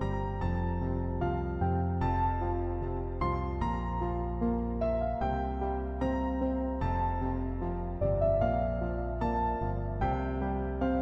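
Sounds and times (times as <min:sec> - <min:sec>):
background music of held chords: 0:00.0 - 0:11.0.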